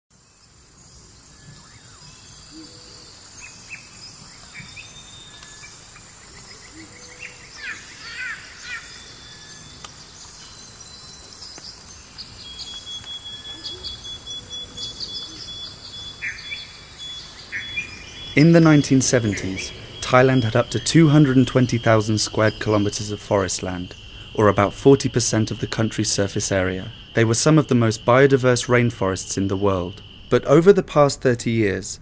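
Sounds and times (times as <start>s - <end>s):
high-pitched insect drone: 0.2s - 31.8s
thin insect whine: 0.2s - 31.8s
birds chirping and calling: 1.0s - 31.8s.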